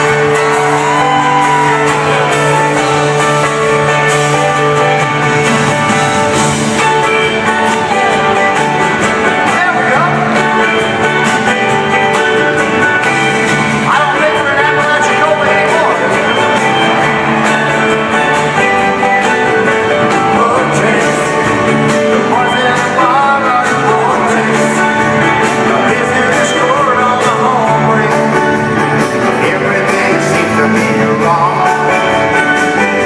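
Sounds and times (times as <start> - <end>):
guitars playing sustained chords: 0.0 - 33.0
live band music: 0.0 - 33.0
person singing: 5.7 - 33.0.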